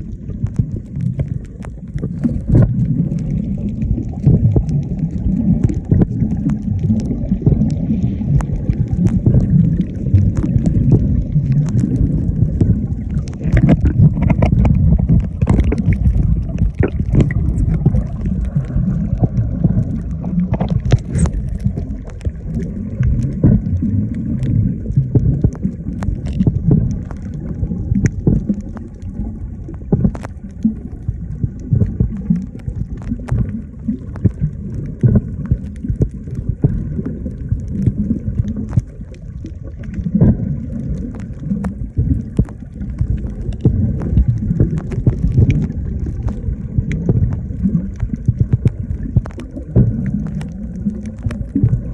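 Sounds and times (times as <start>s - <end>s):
low rumble: 0.0s - 51.9s
water churning and gurgling: 0.0s - 51.9s.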